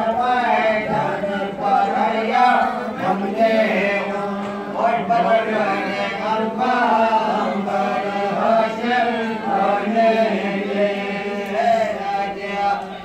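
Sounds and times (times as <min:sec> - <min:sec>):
mantras being chanted: 0:00.0 - 0:13.0.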